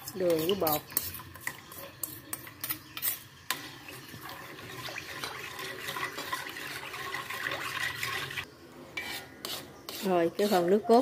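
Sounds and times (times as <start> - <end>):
spoon scraping and liquid sloshing: 0.0 - 10.7.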